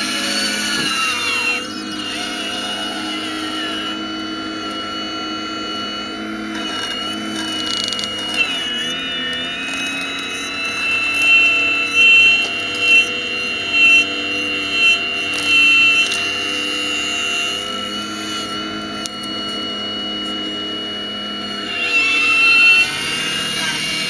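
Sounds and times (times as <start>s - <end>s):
toy excavator drive whining: 0.0s - 24.0s.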